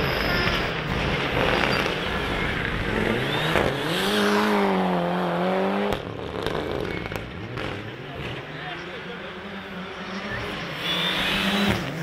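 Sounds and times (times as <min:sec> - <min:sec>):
distant car engine: 0:00.0 - 0:12.0
rally car engine revving: 0:00.0 - 0:12.0.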